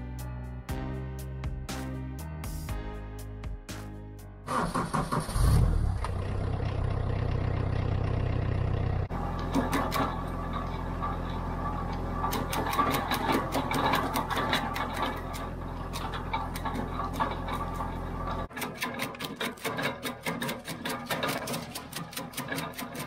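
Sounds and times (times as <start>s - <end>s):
tractor engine running: 4.5s - 23.0s.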